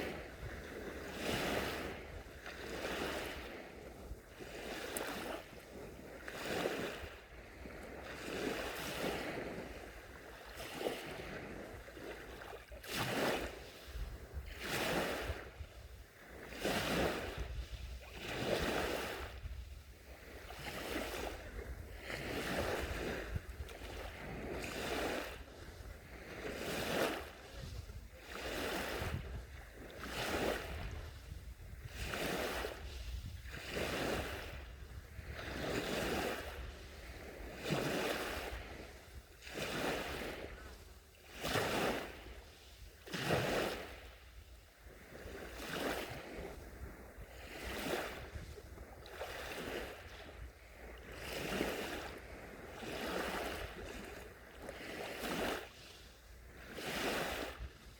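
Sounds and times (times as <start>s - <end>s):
sea waves washing onto shore: 0.0s - 57.7s.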